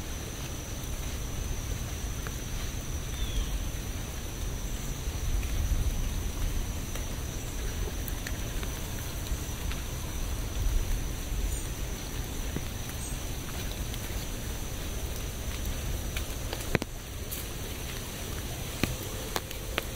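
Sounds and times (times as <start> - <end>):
steady rain: 0.0 - 19.9.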